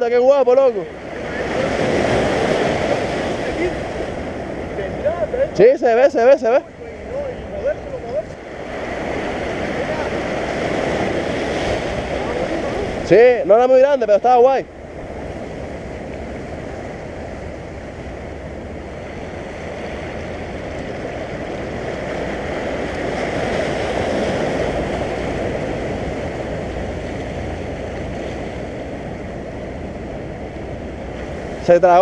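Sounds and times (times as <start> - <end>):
sea waves washing over rocks: 0.0 - 32.0.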